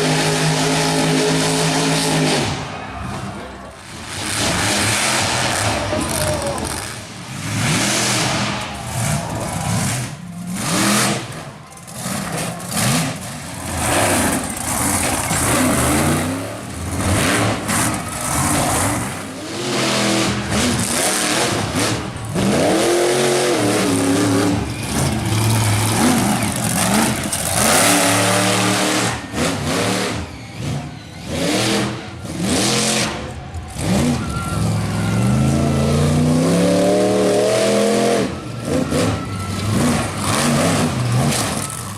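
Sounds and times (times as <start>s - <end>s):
truck engine revving hard: 0.0s - 41.9s.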